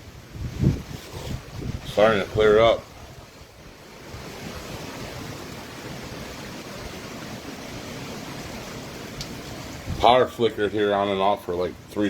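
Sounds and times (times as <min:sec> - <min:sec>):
wind buffeting microphone: 0:00.0 - 0:10.9
rushing wind: 0:00.0 - 0:12.0.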